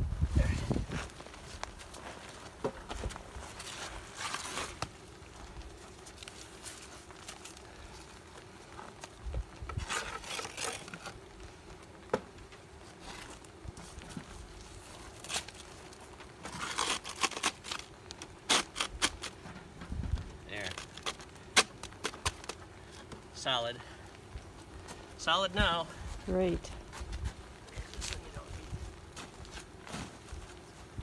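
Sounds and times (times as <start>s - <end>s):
hive boxes rustling and scraping: 0.1s - 31.0s.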